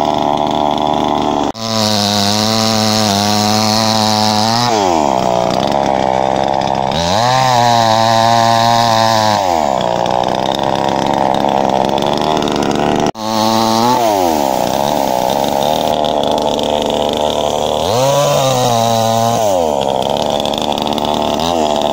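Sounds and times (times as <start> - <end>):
chainsaw engine revving: 0.0 - 21.9.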